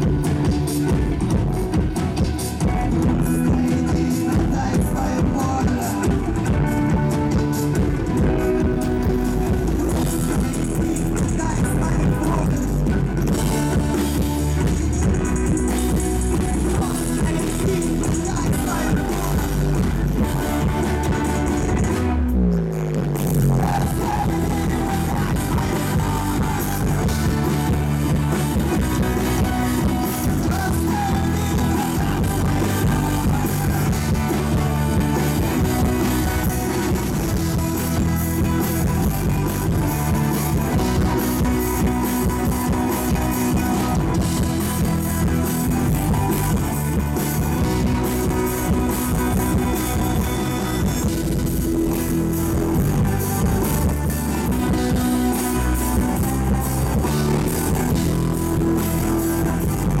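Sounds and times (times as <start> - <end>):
steady drum beat: 0.0 - 22.2, 23.0 - 60.0
electric guitars: 0.0 - 60.0.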